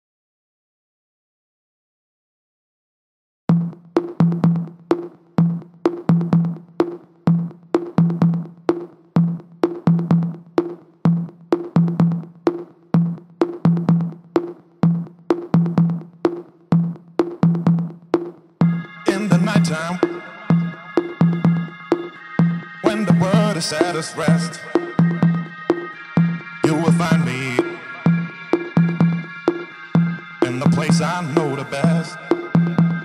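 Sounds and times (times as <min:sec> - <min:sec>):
drum machine beat: 0:03.5 - 0:33.0.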